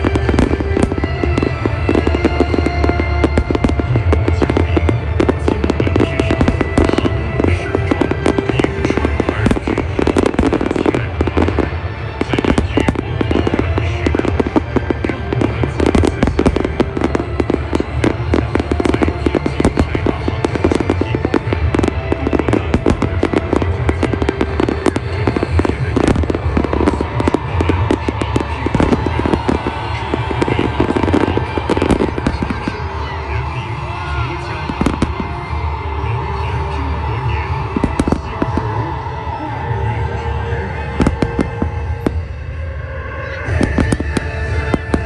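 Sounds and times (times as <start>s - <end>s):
fireworks bursting and crackling: 0.0s - 45.0s
music playing: 0.0s - 45.0s.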